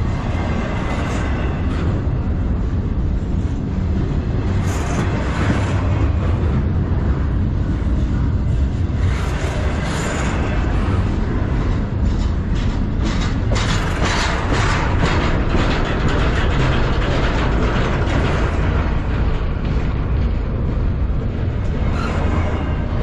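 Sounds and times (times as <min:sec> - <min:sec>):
freight train wheels rumbling on rail: 0:00.0 - 0:23.0
train wheels clattering: 0:00.0 - 0:23.0.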